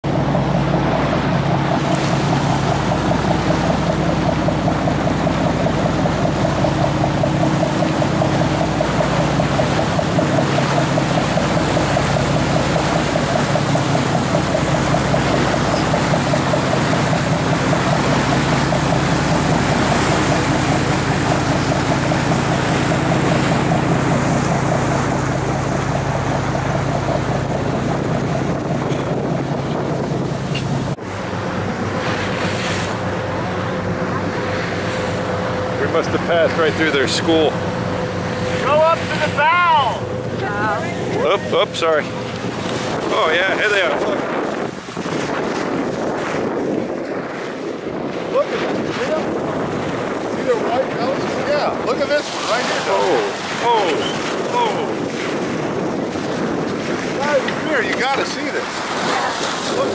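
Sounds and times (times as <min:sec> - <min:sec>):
boat engine throbbing: 0:00.0 - 0:59.9.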